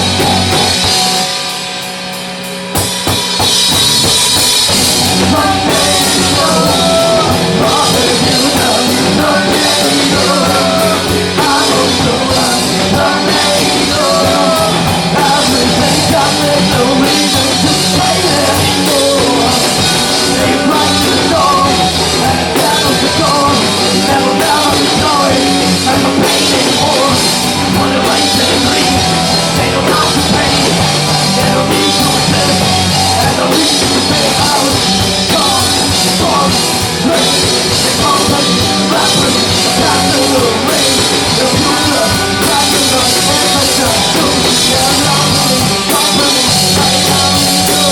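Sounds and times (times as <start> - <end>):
drum kit beat: 0.0 - 47.9
rock band playing live: 0.0 - 47.9.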